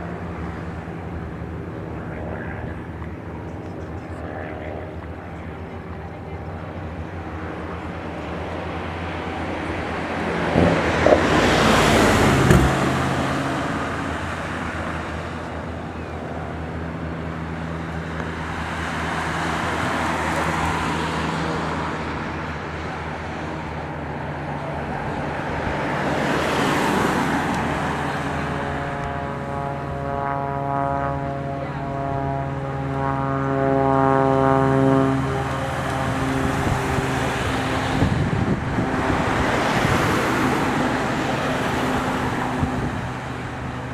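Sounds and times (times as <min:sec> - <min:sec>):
clear steady engine note: 0:00.0 - 0:43.9
propeller aircraft passing: 0:00.0 - 0:43.9
steady engine hum: 0:00.0 - 0:43.9.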